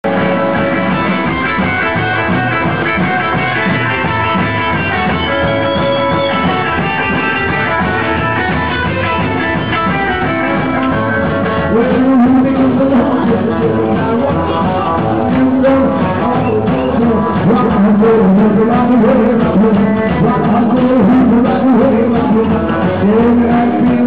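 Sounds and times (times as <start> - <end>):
drums: 0.0 - 24.0
electric guitar: 0.0 - 24.0
upright bass: 0.0 - 24.0.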